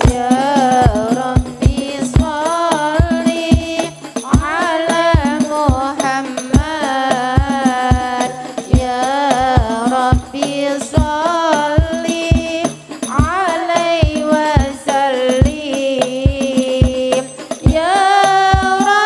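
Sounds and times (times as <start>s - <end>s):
deep frame drum beats: 0.0s - 19.0s
women singing: 0.0s - 19.0s.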